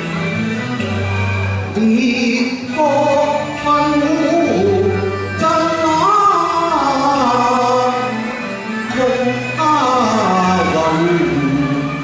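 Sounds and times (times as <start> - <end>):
instrumental accompaniment: 0.0 - 12.0
man singing opera: 1.7 - 12.0.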